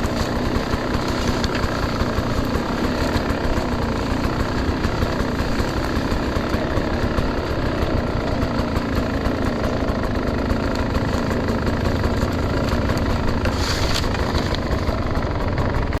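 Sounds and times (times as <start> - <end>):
dirt bike engine idling: 0.0 - 16.0.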